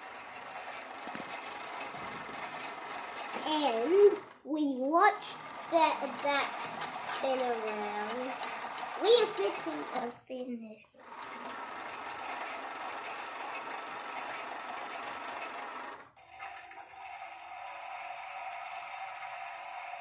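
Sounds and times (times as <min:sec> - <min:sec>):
small electric motor running: 0:00.0 - 0:10.1, 0:11.0 - 0:20.0.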